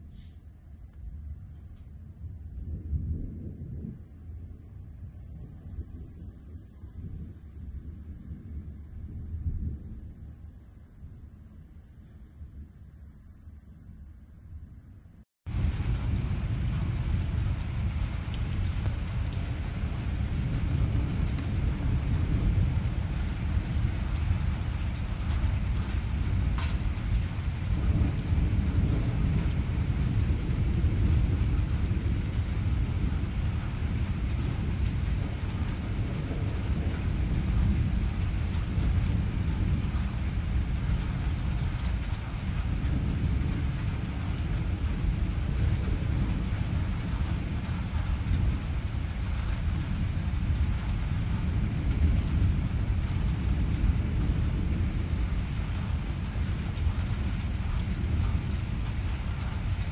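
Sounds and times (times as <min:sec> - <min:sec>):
rain: 0:00.0 - 0:11.6, 0:15.5 - 0:59.9
low rumble of thunder: 0:00.0 - 0:14.7, 0:15.5 - 0:59.9.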